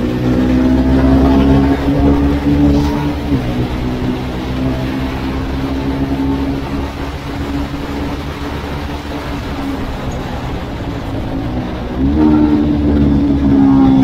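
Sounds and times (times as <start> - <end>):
motorcycle engine running: 0.0 - 14.0
road noise: 0.0 - 14.0
rushing wind: 0.0 - 14.0.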